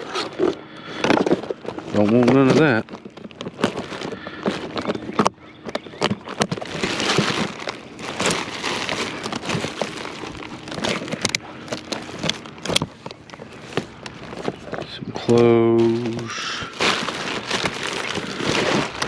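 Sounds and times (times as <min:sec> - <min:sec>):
rummaging through bags and boxes: 0:00.0 - 0:19.0.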